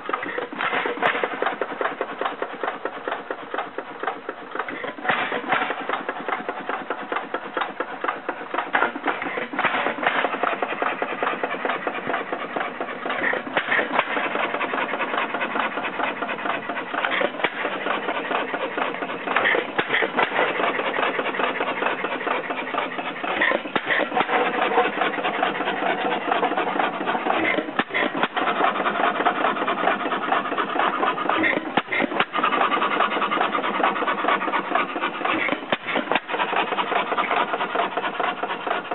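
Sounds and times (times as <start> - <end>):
old engine clattering: 0.0 - 38.9.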